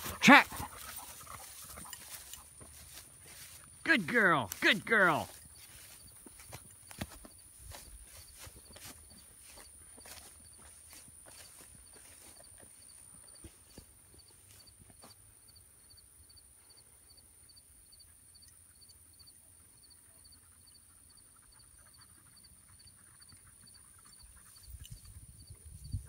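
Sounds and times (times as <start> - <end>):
faint insect chirping: 0.5 - 3.8, 5.3 - 26.0.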